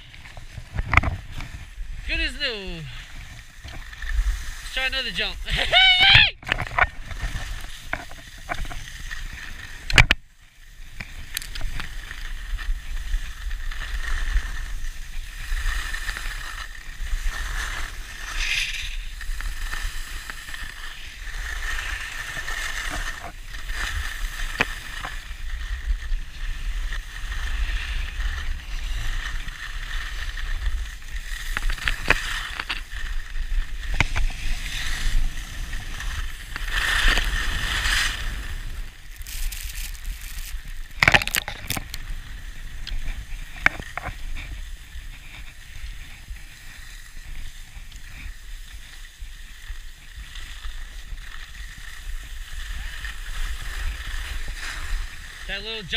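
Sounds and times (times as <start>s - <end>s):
skis scraping on packed snow: 0.0s - 6.0s, 6.6s - 55.9s.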